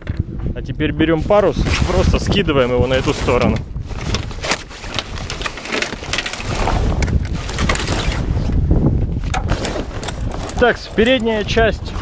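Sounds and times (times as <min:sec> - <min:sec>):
wind rumble on microphone: 0:00.0 - 0:12.0
sail cloth rustling and crackling: 0:01.1 - 0:12.0.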